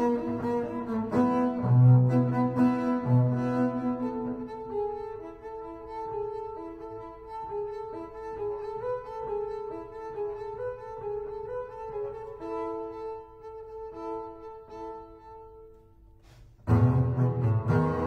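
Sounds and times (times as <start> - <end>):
bowed double bass melody: 0.0 - 15.5, 16.6 - 18.0.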